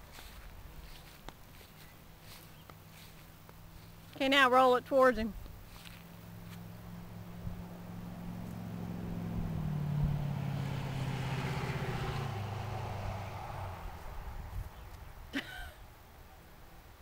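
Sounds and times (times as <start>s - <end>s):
vehicle engine passing by: 0.0s - 4.2s, 5.6s - 15.3s.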